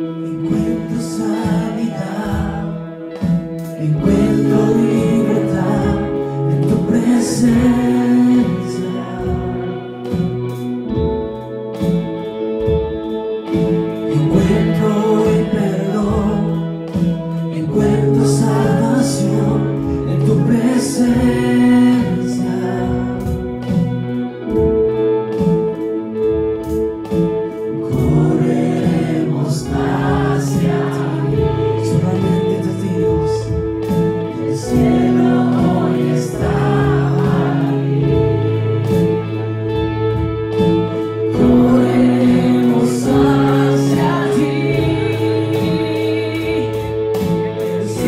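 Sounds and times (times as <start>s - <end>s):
people singing: 0.0s - 10.8s, 13.5s - 24.6s, 27.5s - 48.0s
band playing slow chords: 0.0s - 48.0s.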